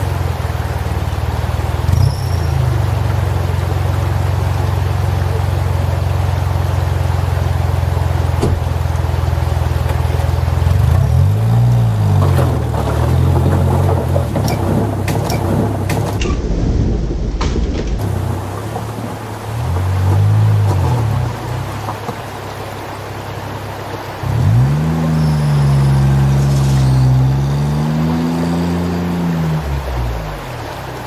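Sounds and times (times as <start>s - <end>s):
vehicle engine humming: 0.0s - 16.3s, 17.8s - 31.0s.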